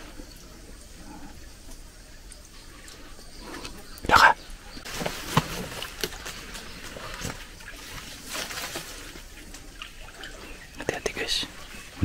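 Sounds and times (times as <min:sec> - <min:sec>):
light water patter: 0:00.0 - 0:12.0.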